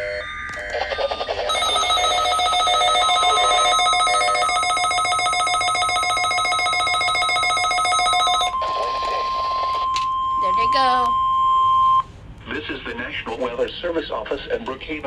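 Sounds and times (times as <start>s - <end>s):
pulsing electronic alarm: 0.0s - 12.1s
steady warning tone: 0.0s - 12.1s.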